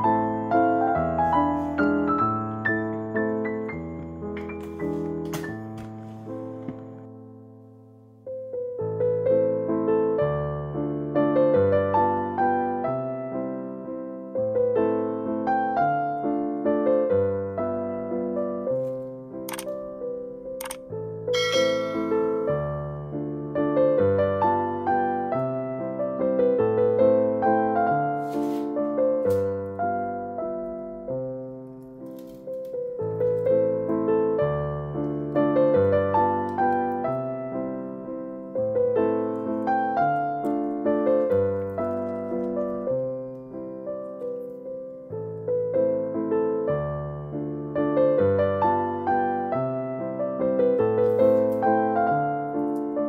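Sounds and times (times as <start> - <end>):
piano melody: 0.0 - 53.0.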